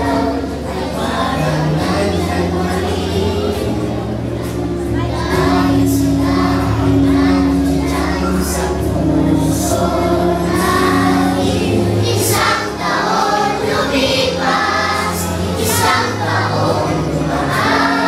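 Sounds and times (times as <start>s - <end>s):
children's choir singing: 0.0s - 18.0s
instrumental backing with bass: 0.0s - 18.0s.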